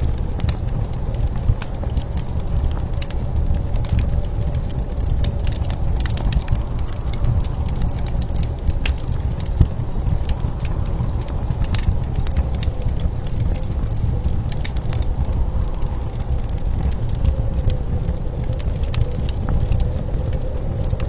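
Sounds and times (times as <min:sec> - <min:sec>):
blizzard wind rumble: 0:00.0 - 0:21.0
wood fire crackling: 0:00.0 - 0:21.0.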